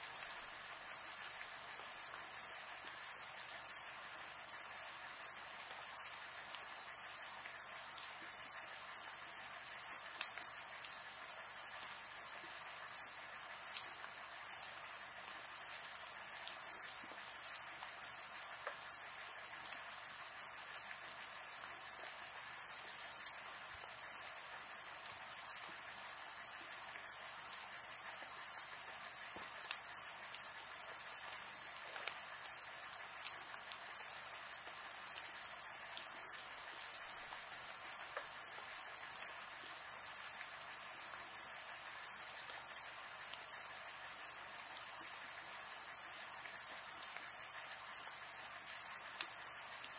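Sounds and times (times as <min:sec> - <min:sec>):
crickets chirping: 0:00.0 - 0:49.9
rain hissing: 0:00.0 - 0:49.9.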